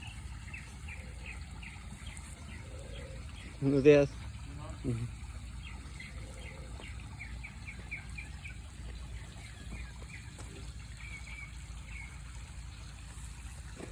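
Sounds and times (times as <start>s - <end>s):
small birds chirping: 0.0s - 13.9s
water trickling: 0.0s - 13.9s.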